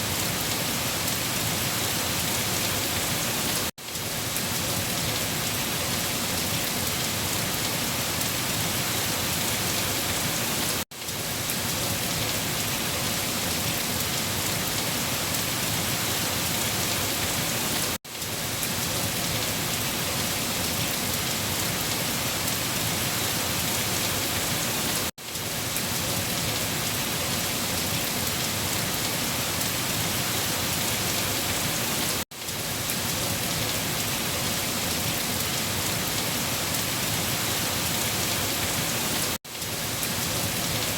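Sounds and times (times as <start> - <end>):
heavy rain falling on leaves: 0.0 - 40.9.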